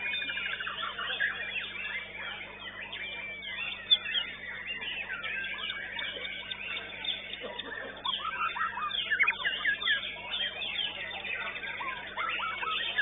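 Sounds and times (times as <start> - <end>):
birds chorus of chirps and whistles: 0.0 - 13.0.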